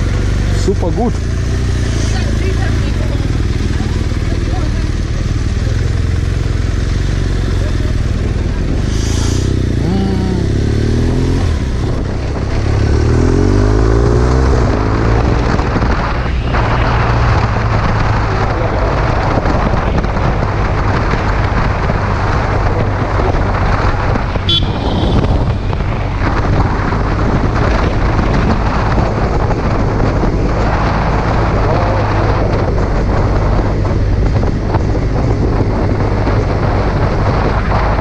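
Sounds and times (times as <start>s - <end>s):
motorcycle engine: 0.0s - 38.0s
wind and road noise: 0.0s - 38.0s.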